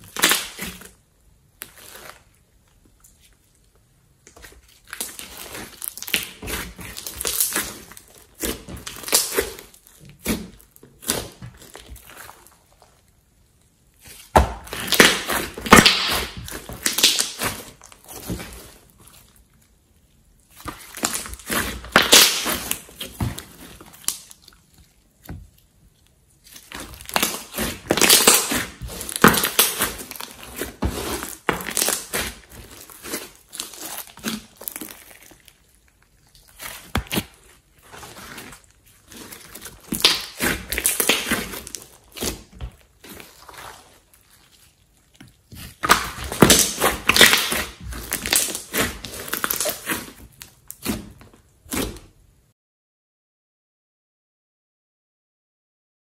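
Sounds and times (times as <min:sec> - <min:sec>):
slime crackling and popping: 0:00.0 - 0:52.1.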